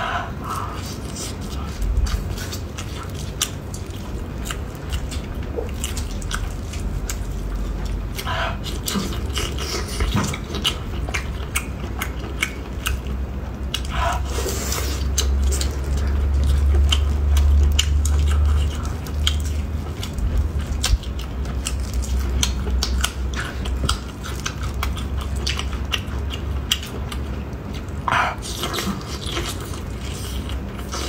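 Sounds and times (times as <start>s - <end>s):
steady low hum: 0.0s - 31.0s
person biting and chewing food: 0.3s - 31.0s.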